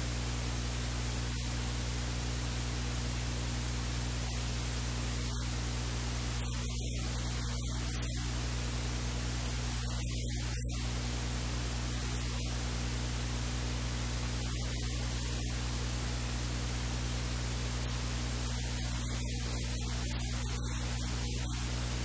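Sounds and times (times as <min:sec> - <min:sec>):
electrical hiss: 0:00.0 - 0:22.0
low mains hum: 0:00.0 - 0:22.0.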